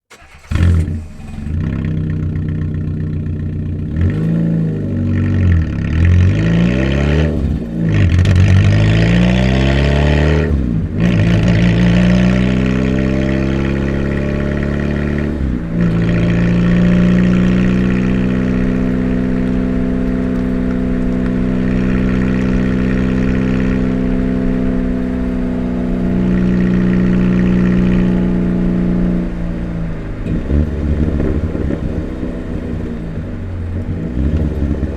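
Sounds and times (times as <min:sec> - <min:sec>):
car engine with broken exhaust: 0:00.0 - 0:34.9.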